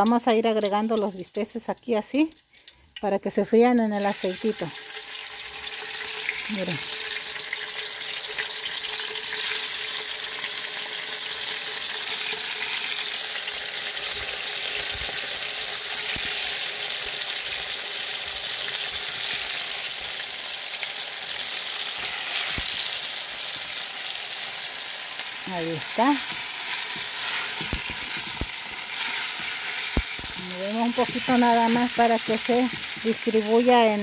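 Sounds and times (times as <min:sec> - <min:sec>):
meat sizzling in hot oil: 0:00.0 - 0:34.0.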